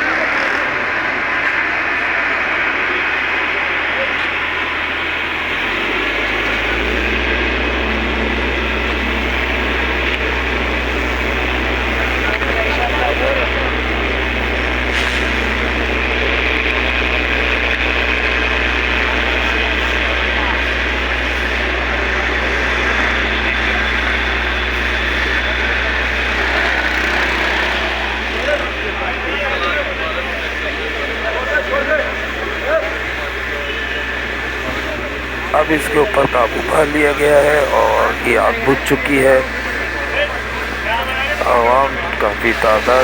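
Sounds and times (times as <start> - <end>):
engine droning: 0.0 - 43.0.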